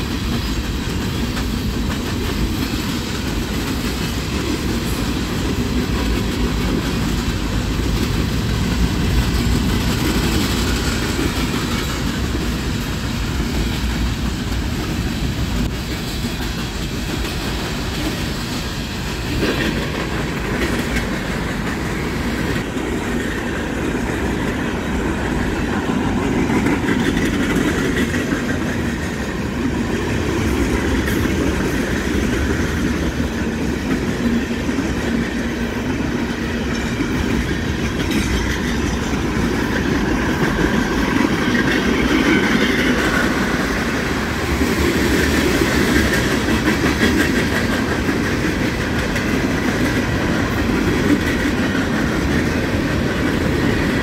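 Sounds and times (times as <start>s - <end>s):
freight train cars rolling: 0.0s - 54.0s
steel wheels clattering on rails: 0.0s - 54.0s.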